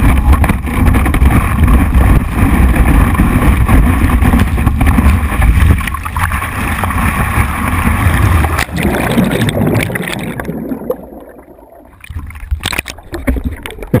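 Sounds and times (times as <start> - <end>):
rushing water and spray: 0.0 - 11.2
muffled underwater gurgling: 0.0 - 14.0.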